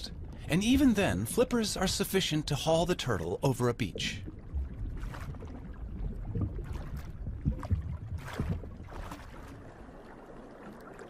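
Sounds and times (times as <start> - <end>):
rumble of moving water: 0.0 - 11.0
water swishes: 0.0 - 11.0.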